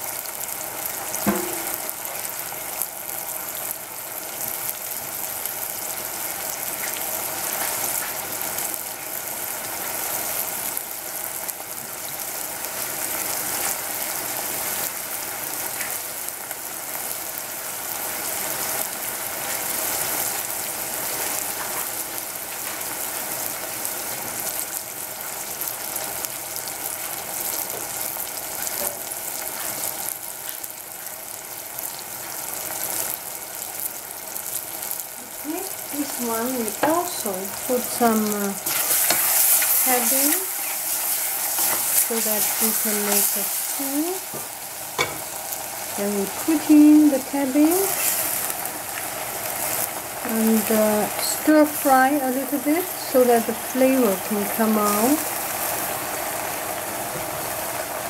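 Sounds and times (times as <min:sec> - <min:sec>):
mushrooms sizzling in oil: 0:00.0 - 0:58.0.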